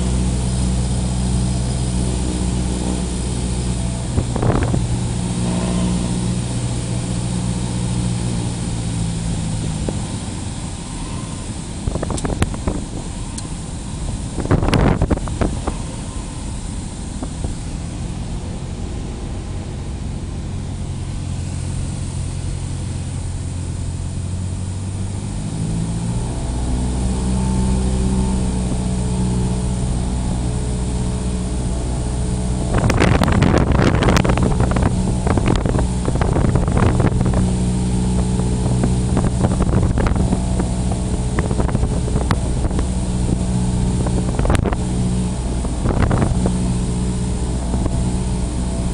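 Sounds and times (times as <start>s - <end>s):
wind gusts on microphone: 0.0s - 25.3s, 26.4s - 48.9s
propeller plane engine running: 0.0s - 48.9s.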